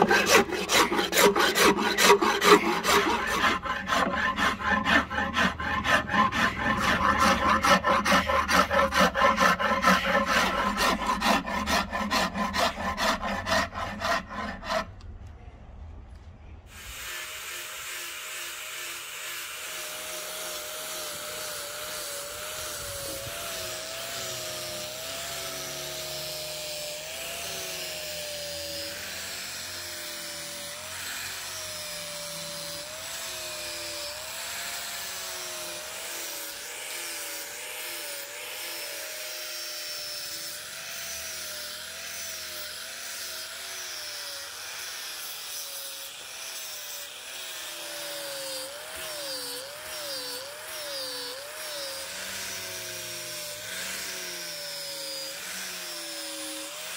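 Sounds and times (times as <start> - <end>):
electric disc sander: 0.0 - 15.0, 16.7 - 56.9
hand file rasping on wood: 0.0 - 15.0, 16.8 - 56.9.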